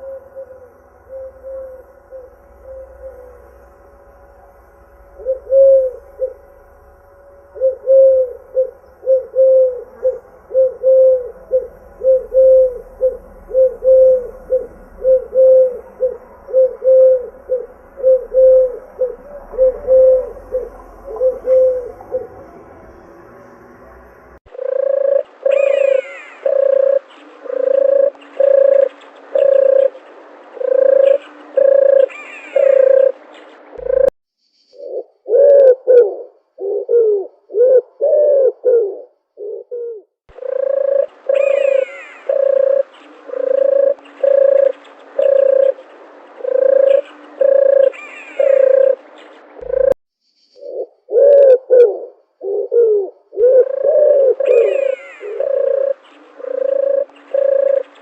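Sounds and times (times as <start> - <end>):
doves cooing: 0.0 - 3.4, 5.2 - 6.4, 7.5 - 22.8, 24.5 - 34.1, 34.8 - 50.0, 50.6 - 58.0
higher-pitched bird calls: 5.1 - 6.7, 7.5 - 22.7, 24.5 - 58.0.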